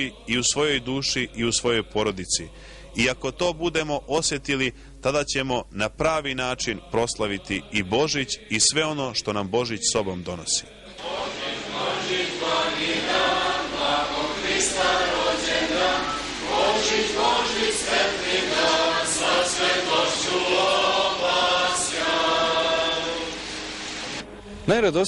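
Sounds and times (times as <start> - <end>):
choir singing church chant: 0.0 - 3.6, 6.3 - 24.3.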